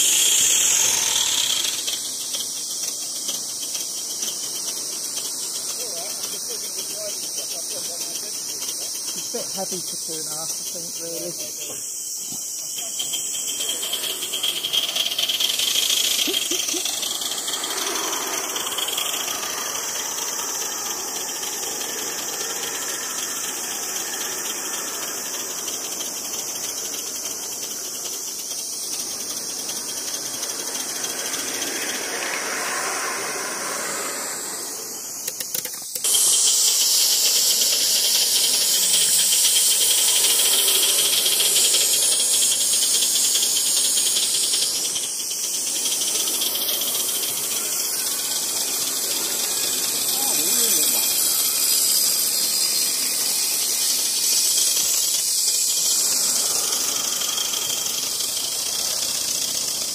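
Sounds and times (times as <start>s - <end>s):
light rattle: 0.0s - 59.9s
loud high steam hiss: 0.0s - 59.9s
steam hissing: 0.0s - 59.9s.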